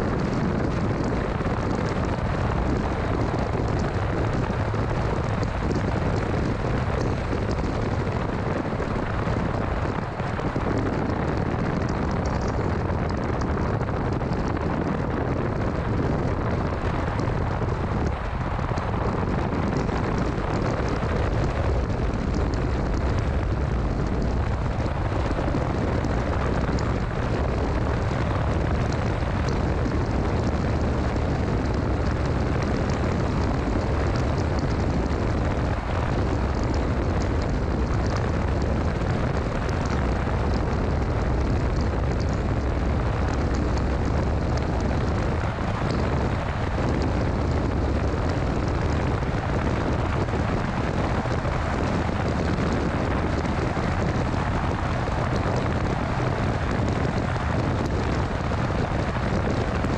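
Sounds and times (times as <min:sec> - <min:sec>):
car road and tyre rumble: 0:00.0 - 0:59.9.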